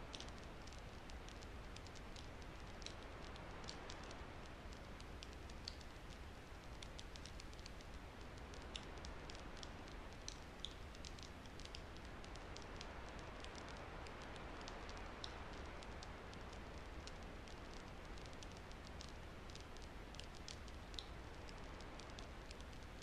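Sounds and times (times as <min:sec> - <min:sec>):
faint steady hiss: 0:00.0 - 0:23.0
small crackles and clicks: 0:00.0 - 0:23.0.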